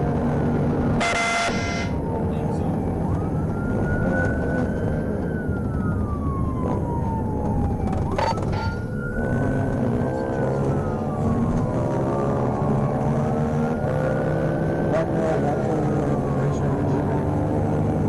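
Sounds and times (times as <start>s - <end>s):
engine and road noise: 0.0s - 18.0s
police siren wailing: 0.0s - 18.0s.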